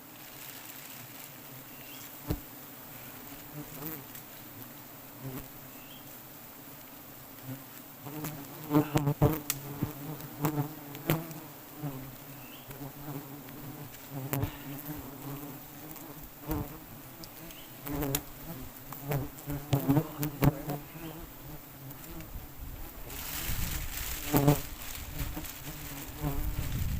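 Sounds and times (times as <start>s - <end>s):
bees buzzing in a swarm: 0.0s - 26.9s.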